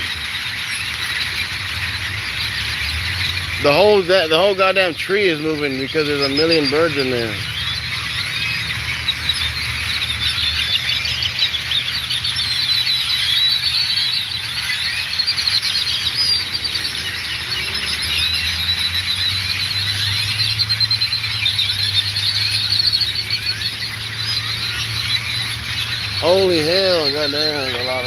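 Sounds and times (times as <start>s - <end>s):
flock of birds chirping: 0.0s - 28.0s.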